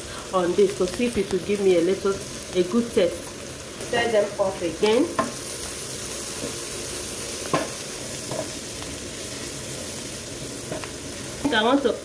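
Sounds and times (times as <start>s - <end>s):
vegetables and egg sizzling in pan: 0.0s - 12.0s.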